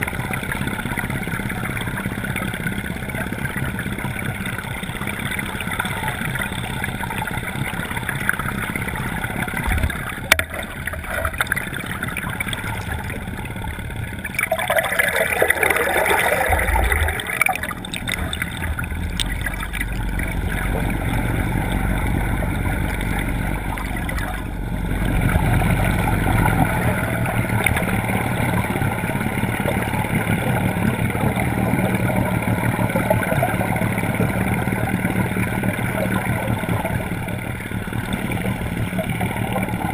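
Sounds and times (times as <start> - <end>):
motorboat running: 0.0 - 39.9
water rushing and gurgling: 0.0 - 39.9.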